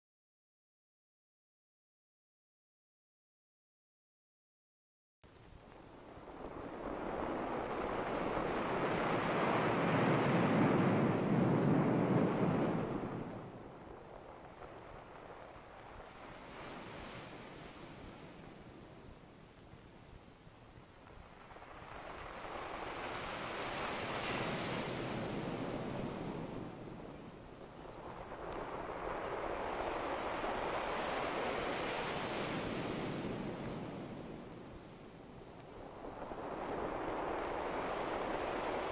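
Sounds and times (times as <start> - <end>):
surf-like rushing noise: 5.9 - 38.9.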